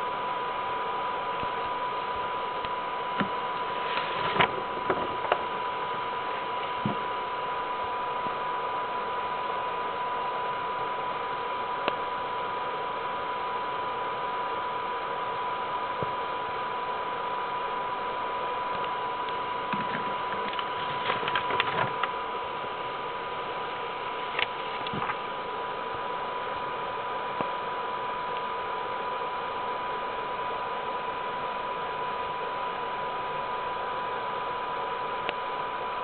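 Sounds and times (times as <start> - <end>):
thin high whine: 0.0 - 36.0.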